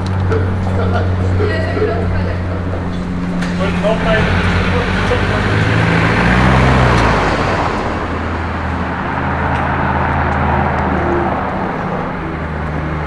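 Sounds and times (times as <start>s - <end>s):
car engine running close by: 0.0s - 13.0s
street traffic: 0.0s - 13.0s.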